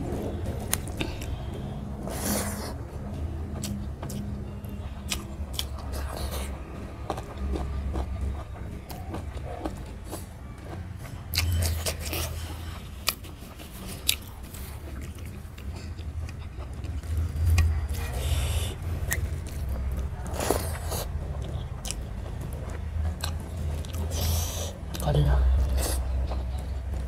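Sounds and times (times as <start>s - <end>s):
chewing: 3.5s - 27.0s.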